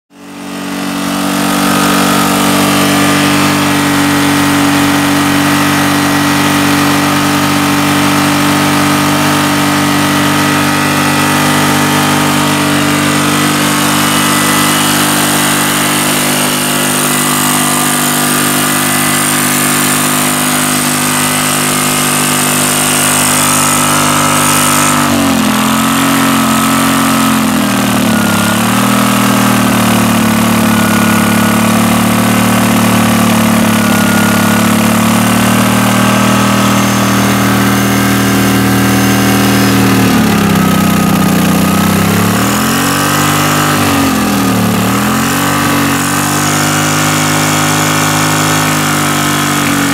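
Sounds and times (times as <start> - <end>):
generator engine running: 0.0 - 49.9.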